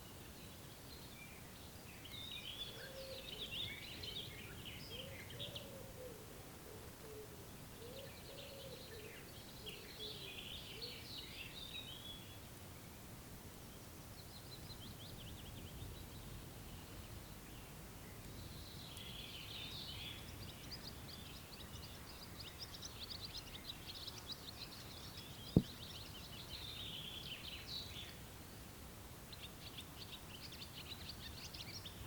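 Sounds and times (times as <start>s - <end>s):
songbirds twittering: 0.0s - 32.0s
steady outdoor hiss: 0.0s - 32.0s.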